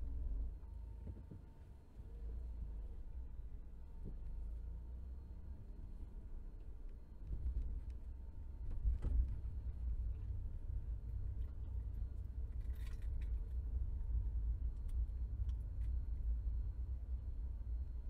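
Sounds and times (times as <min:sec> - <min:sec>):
low rumble inside car: 0:00.0 - 0:18.0.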